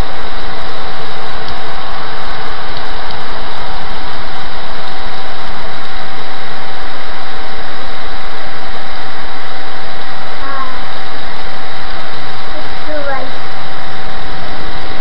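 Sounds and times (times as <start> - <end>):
heavy rain in wind: 0.0 - 15.0.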